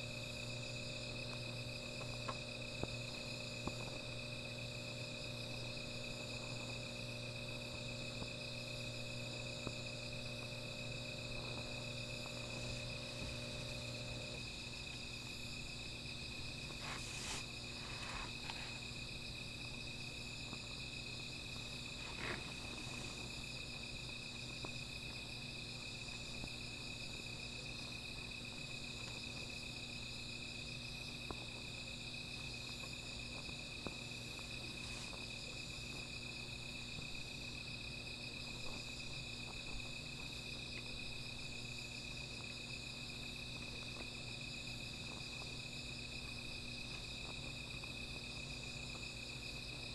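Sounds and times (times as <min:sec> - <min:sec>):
crickets and insects trilling: 0:00.0 - 0:49.9
small fire crackling: 0:00.0 - 0:49.9.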